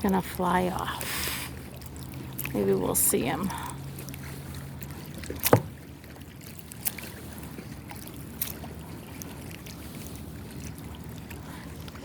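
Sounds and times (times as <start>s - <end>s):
water lapping against a hull: 0.0s - 12.0s.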